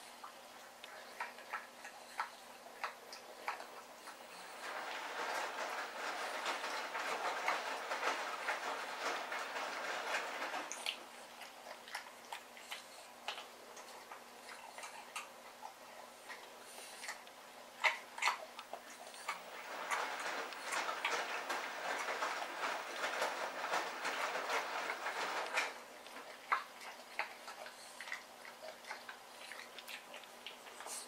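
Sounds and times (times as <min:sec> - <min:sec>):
puppy chewing bones: 0:00.0 - 0:31.0.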